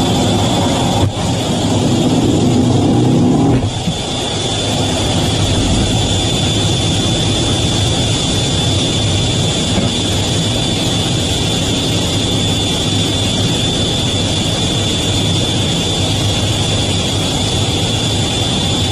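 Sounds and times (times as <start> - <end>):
fighter jet engine rumble: 0.0 - 18.9
high engine whine: 0.0 - 18.9.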